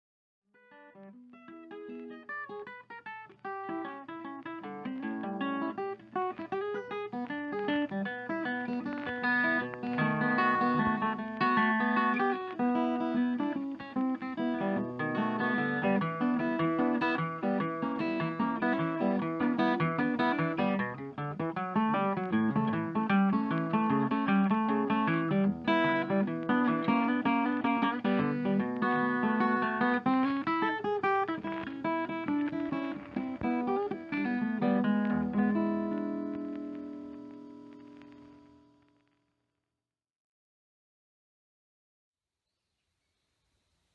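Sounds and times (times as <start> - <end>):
plucked guitar music: 0.6 - 38.8.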